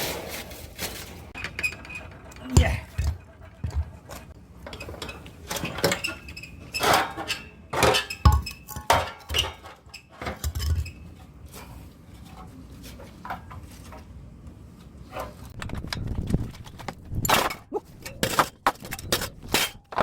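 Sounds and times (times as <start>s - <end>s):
metal parts clanking and scraping: 0.0s - 14.1s, 14.8s - 20.0s.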